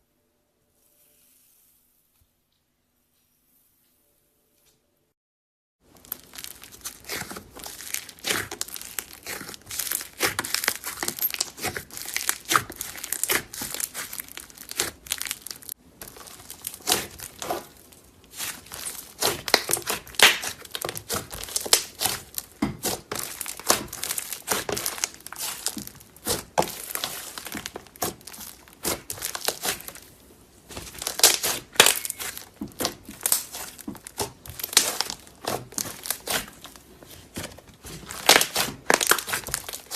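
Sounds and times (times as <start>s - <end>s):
slime crackling and popping: 5.9s - 39.9s.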